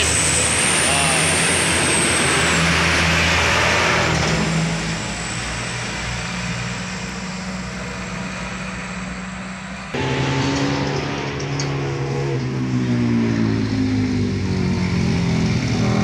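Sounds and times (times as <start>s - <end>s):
diesel trucks passing: 0.0s - 16.0s.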